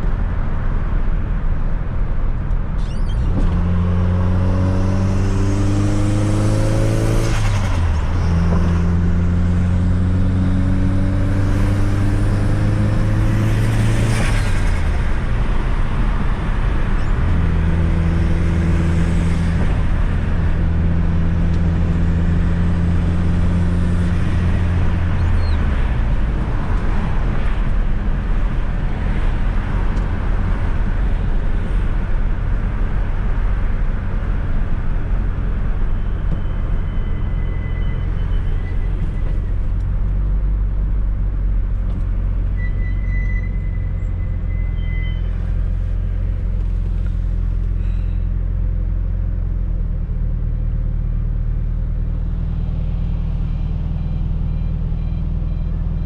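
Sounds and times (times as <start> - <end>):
car engine cruising: 0.0 - 56.0
road and tyre noise: 0.0 - 56.0.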